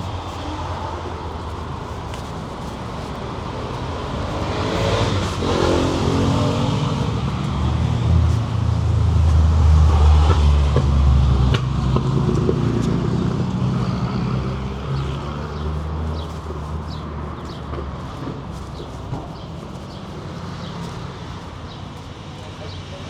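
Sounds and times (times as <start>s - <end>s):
urban background noise: 0.0s - 23.0s
vehicle engine rumbling: 0.0s - 23.0s.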